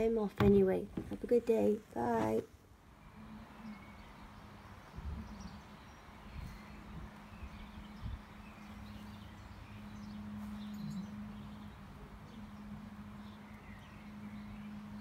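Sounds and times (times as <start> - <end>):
low steady hum: 0.0 - 15.0
faint bird chirps: 2.9 - 15.0.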